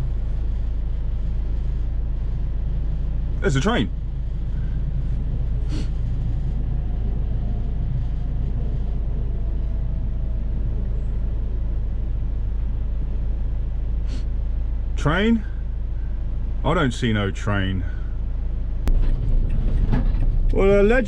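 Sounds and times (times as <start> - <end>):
van engine and tyres rumbling: 0.0 - 21.0.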